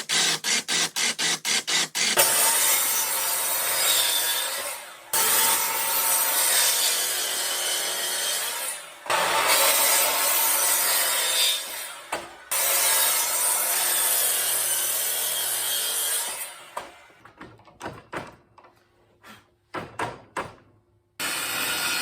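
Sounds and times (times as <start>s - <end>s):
saw cutting wood: 0.0s - 17.2s, 21.2s - 22.0s.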